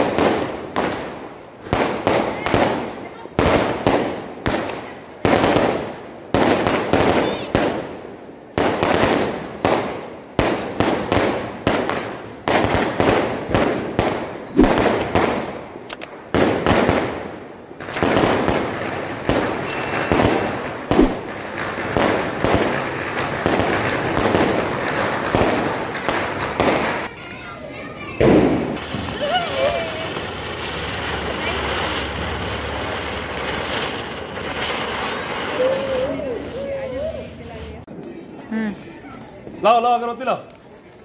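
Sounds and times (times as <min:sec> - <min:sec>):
fireworks bangs with crackle: 0:00.0 - 0:38.5.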